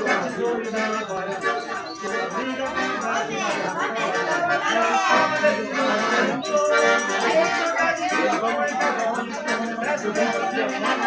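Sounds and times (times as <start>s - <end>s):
accordion music: 0.0s - 11.0s.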